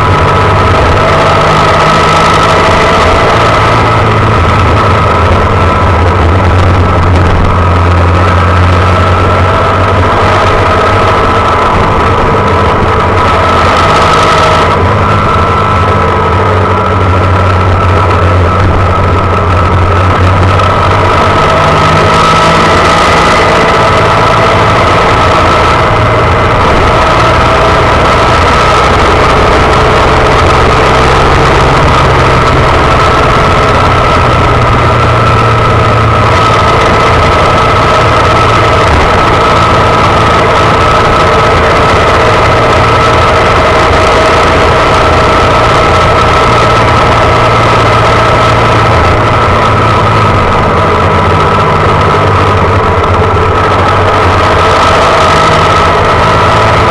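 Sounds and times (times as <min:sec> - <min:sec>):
motorbike engine running steadily: 0:00.0 - 0:56.9.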